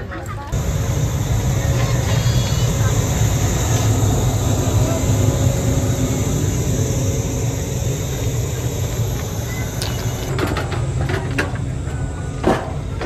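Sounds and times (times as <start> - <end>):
train rumbling and rolling: 0.0 - 13.0.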